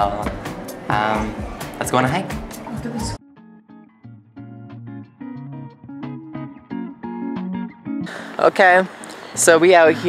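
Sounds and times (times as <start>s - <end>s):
plucked guitar music: 0.3s - 9.3s.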